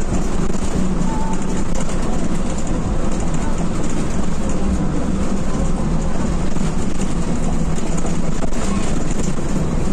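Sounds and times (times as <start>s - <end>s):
bus engine rumble: 0.0s - 9.9s.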